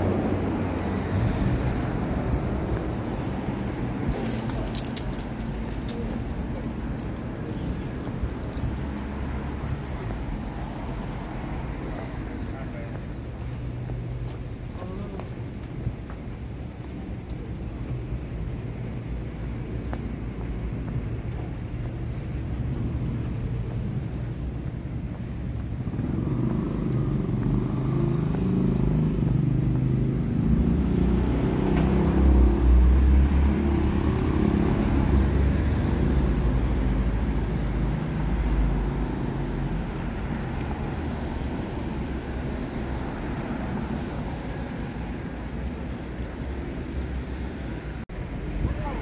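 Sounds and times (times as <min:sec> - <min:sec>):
street traffic: 0:00.0 - 0:49.0.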